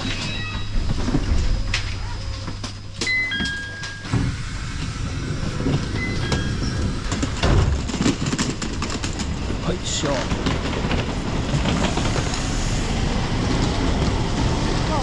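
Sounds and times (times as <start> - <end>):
sliding doors opening: 0.0 - 15.0
train car hum: 0.0 - 15.0.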